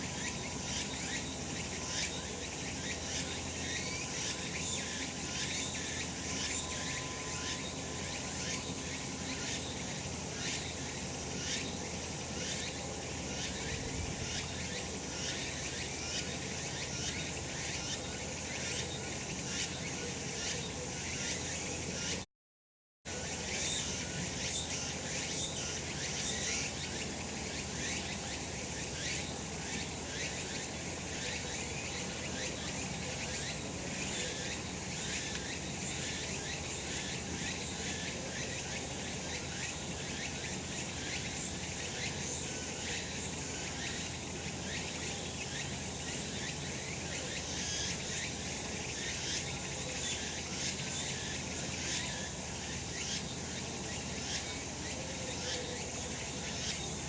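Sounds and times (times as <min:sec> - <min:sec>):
cicadas buzzing: 0:00.0 - 0:22.2, 0:23.1 - 0:57.0.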